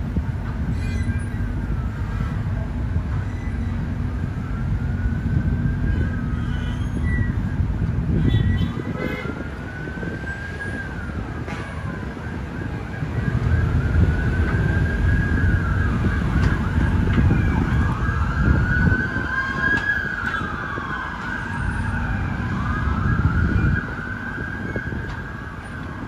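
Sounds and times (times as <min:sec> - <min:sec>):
excavator diesel engine rumble: 0:00.0 - 0:26.0
emergency siren wailing: 0:01.1 - 0:26.0.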